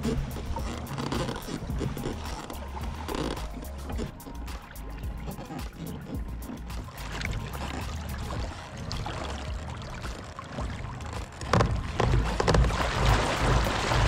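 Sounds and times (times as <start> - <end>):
water lapping around kayak: 0.0 - 14.0.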